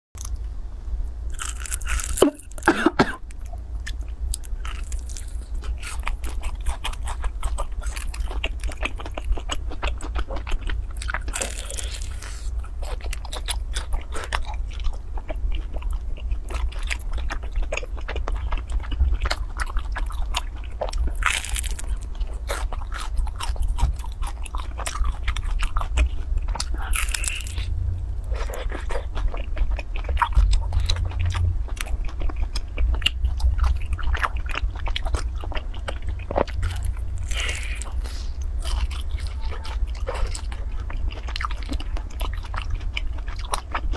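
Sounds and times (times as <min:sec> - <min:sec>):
biting and chewing rice cakes: 0:01.3 - 0:43.9.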